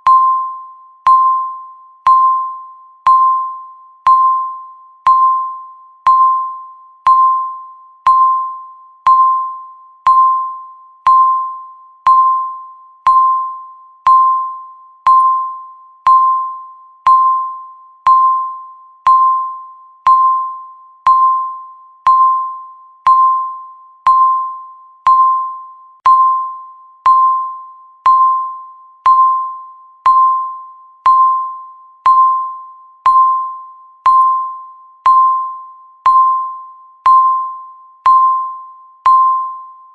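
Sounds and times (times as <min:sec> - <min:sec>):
timer beeping: 0:00.0 - 0:39.9.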